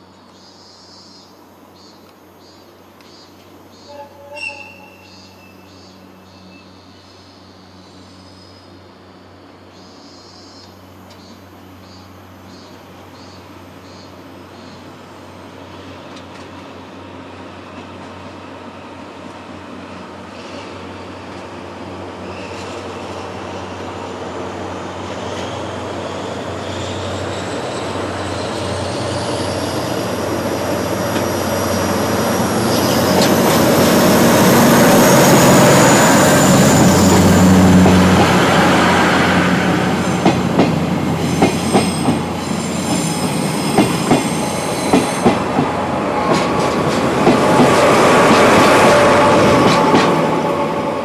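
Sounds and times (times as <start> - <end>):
diesel locomotive engine hum: 0.0 - 51.0.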